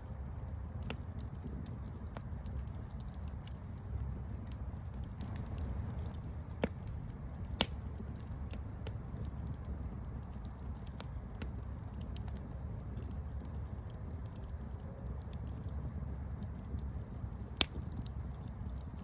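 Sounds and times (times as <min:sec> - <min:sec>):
campfire rumbling: 0:00.0 - 0:19.0
fire crackling and popping: 0:00.0 - 0:19.0.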